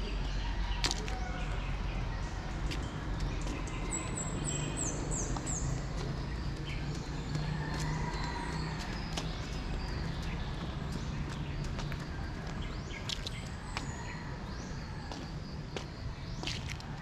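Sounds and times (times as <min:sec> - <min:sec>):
light footsteps: 0:00.0 - 0:17.0.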